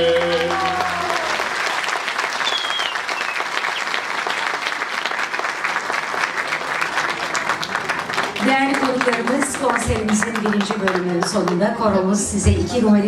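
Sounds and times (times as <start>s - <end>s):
crowd applauding: 0.0s - 11.8s.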